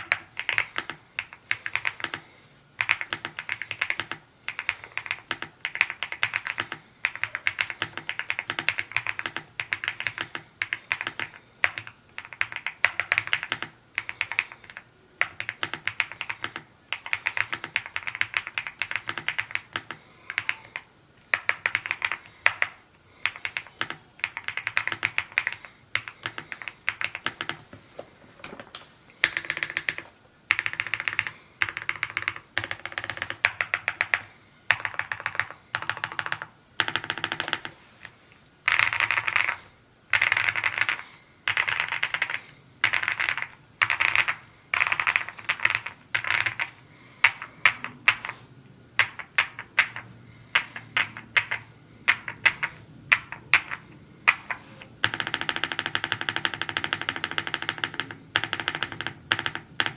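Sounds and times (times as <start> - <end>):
mechanical keyboard typing: 0.0 - 27.7, 28.5 - 37.8, 38.6 - 59.9.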